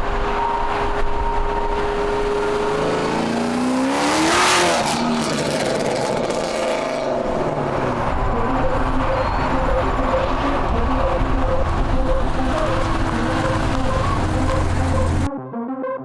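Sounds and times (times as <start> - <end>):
car engine passing by at speed: 0.0 - 15.3.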